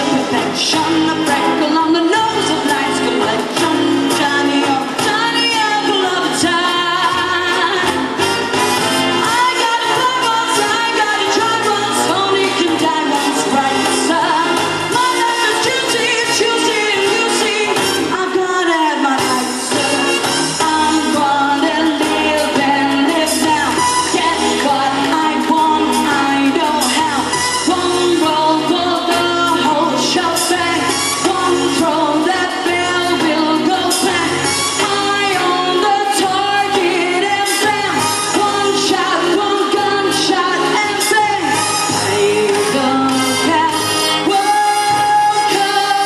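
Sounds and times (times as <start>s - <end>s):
pop song with singer and band: 0.0s - 46.0s.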